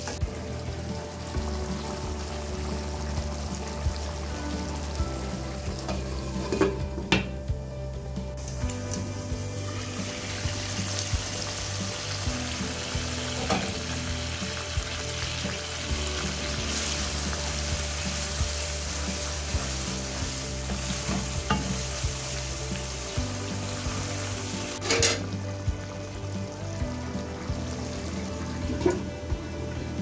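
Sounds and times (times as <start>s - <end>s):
food sizzling in a pan: 0.0s - 7.6s, 8.4s - 30.0s.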